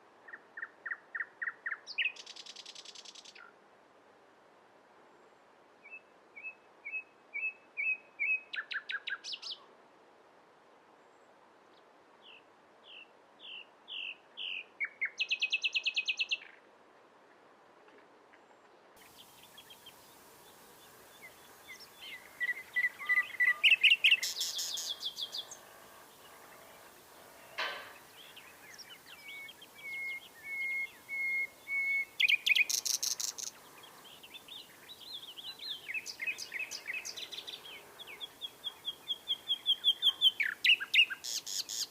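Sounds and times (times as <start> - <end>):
nightingale singing: 0.2 - 3.5, 5.8 - 9.6, 12.2 - 16.5, 19.0 - 41.9.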